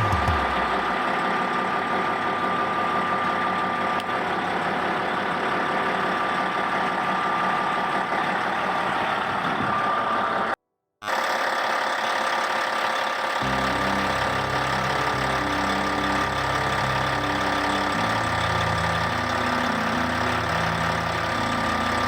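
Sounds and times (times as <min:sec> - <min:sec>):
diesel engine idling: 0:00.0 - 0:10.5, 0:12.1 - 0:22.0
steady whine: 0:00.0 - 0:10.5, 0:13.4 - 0:22.0.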